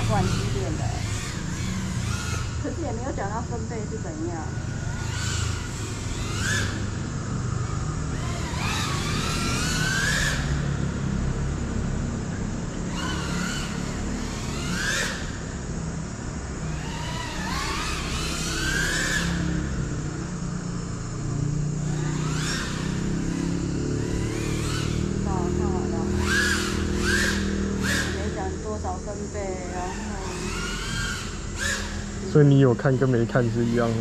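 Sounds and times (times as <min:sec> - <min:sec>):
drone motors whining: 0:00.0 - 0:34.0
low steady rumble: 0:00.0 - 0:34.0.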